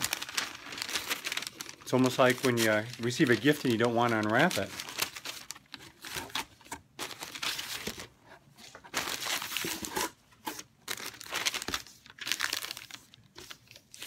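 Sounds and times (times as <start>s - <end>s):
tissue paper rustling: 0.0s - 14.0s.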